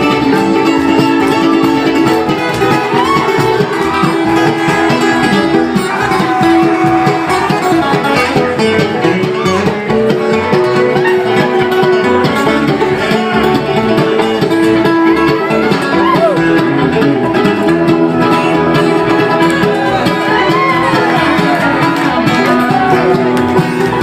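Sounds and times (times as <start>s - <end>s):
banjo: 0.0s - 24.0s
bluegrass band playing: 0.0s - 24.0s
picked acoustic guitar: 0.0s - 24.0s.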